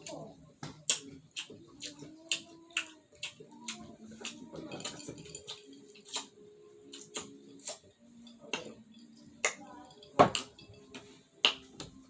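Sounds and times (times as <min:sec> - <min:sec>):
chewing: 0:00.0 - 0:11.7.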